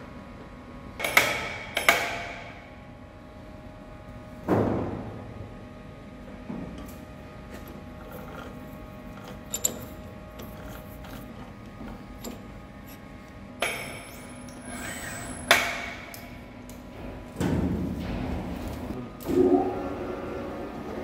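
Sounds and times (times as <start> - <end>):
faint workshop hum: 0.0 - 21.0.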